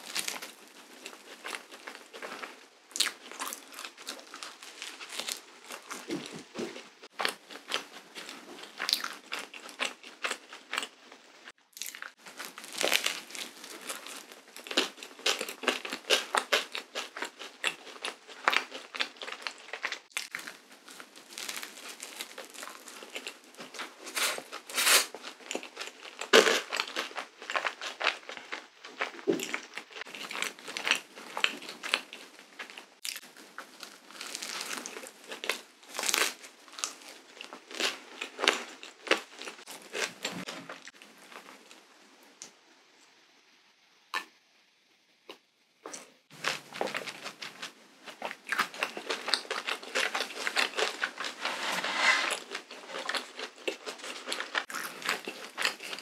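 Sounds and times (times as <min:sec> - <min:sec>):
crunchy chewing: 0:00.0 - 0:41.8, 0:45.3 - 0:56.0.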